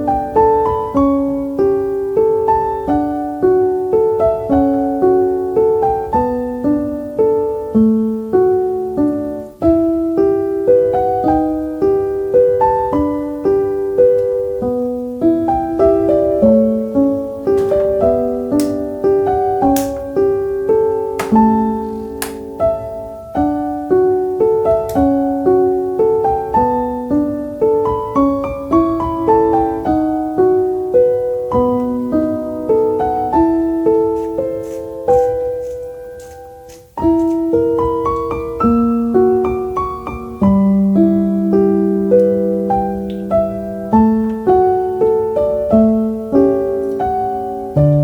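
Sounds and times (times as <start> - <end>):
gentle piano melody: 0.0 - 48.0.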